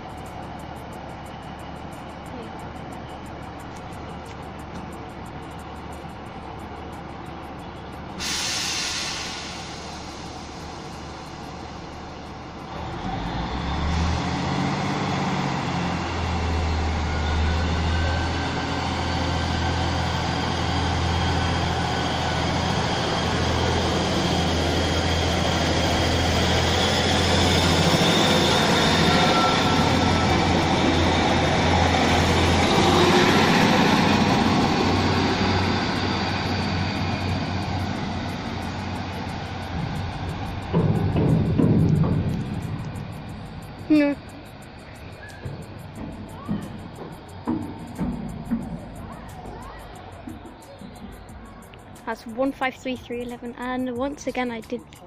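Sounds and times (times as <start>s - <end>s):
diesel train engine throbbing: 0.0s - 55.0s.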